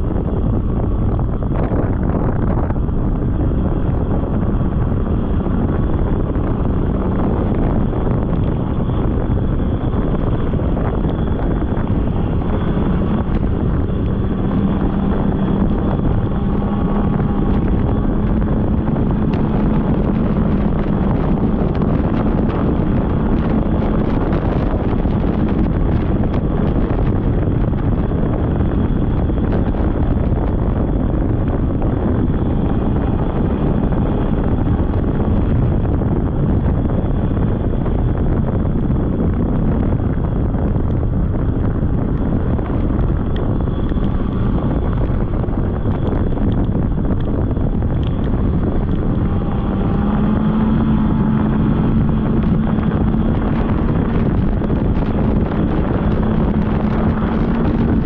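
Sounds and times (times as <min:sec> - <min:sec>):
snowmobile engine running: 0:00.0 - 0:58.0
wind noise on microphone: 0:00.0 - 0:58.0.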